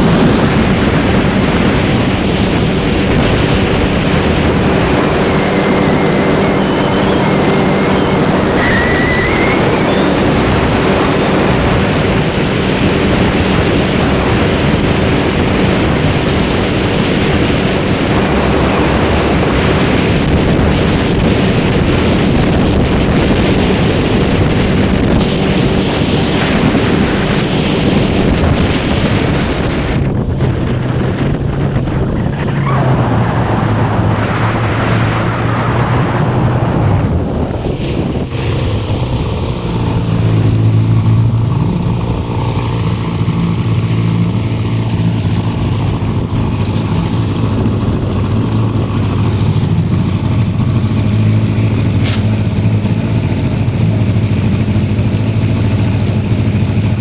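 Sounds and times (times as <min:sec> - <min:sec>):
outboard motor running: 0:00.0 - 0:57.0
water noise: 0:00.0 - 0:57.0
wind on microphone: 0:00.0 - 0:57.0.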